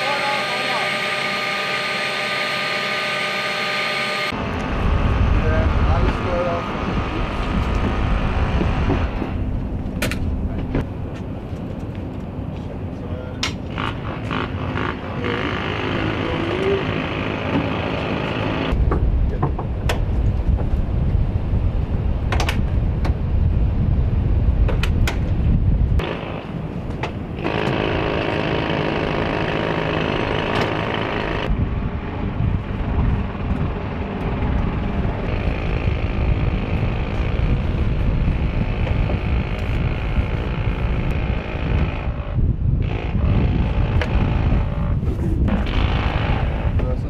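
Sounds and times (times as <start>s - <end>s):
engine and machinery noise: 0.0s - 47.0s.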